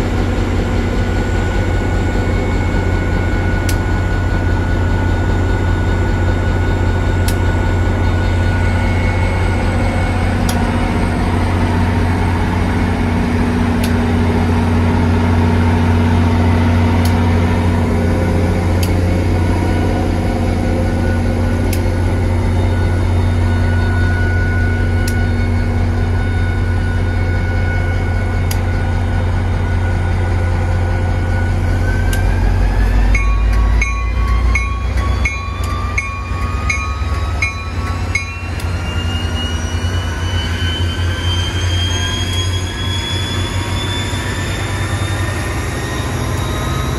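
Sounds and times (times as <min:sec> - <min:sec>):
locomotive engine humming: 0:00.0 - 0:46.9
rising locomotive whine: 0:00.0 - 0:46.9.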